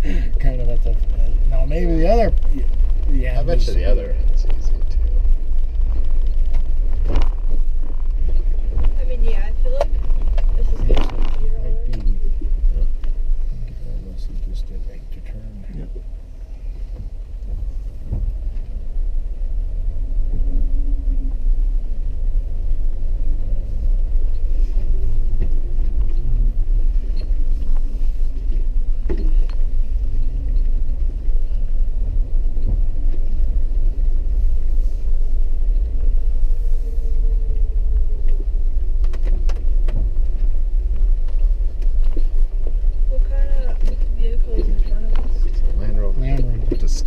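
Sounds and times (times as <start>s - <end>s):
vehicle rumbling on dirt road: 0.0s - 47.0s.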